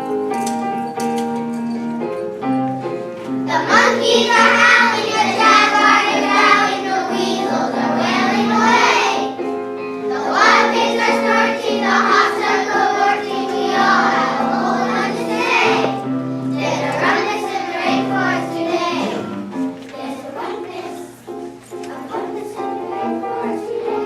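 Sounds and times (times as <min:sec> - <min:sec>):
instrumental accompaniment: 0:00.0 - 0:24.0
children singing together: 0:03.4 - 0:24.0.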